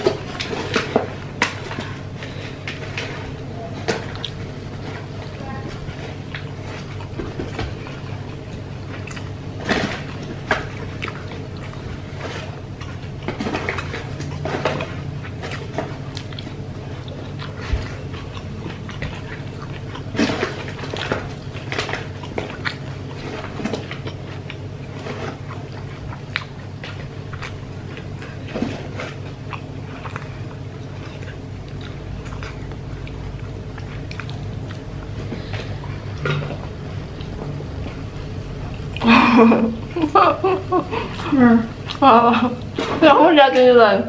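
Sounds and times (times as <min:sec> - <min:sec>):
chewing and mouth smacks: 0:00.0 - 0:43.6
steady low hum: 0:00.0 - 0:44.0.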